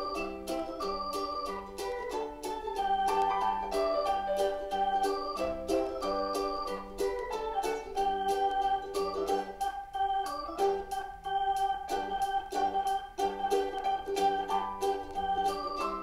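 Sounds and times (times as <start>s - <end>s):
light melody over ticking beat: 0.0s - 16.0s.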